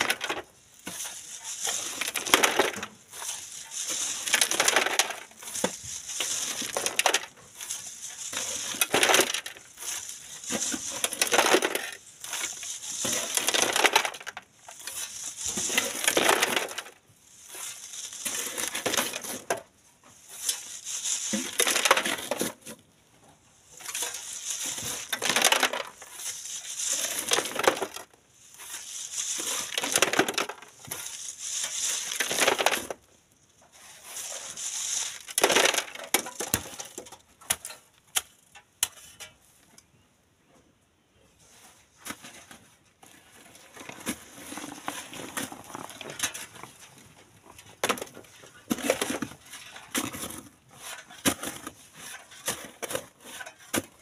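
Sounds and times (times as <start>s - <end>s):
grit and stones rattling: 0.0s - 22.8s, 23.7s - 33.1s, 33.7s - 37.8s, 42.1s - 54.0s
shovels scraping sand and gravel: 0.0s - 22.9s, 23.7s - 39.3s, 41.5s - 54.0s.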